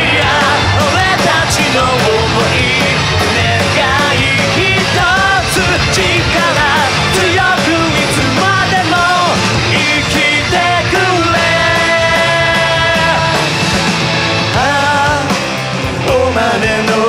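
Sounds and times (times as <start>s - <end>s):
man singing: 0.0s - 13.7s, 14.4s - 17.0s
live rock band: 0.0s - 17.0s.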